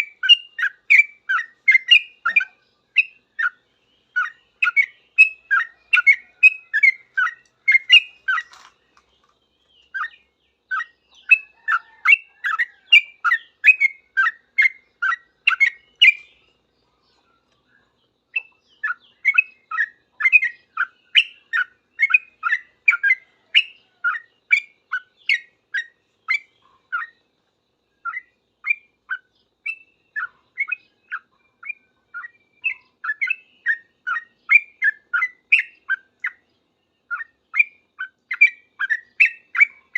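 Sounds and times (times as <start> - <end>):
bird chirping in rapid runs: 0.0 - 39.9.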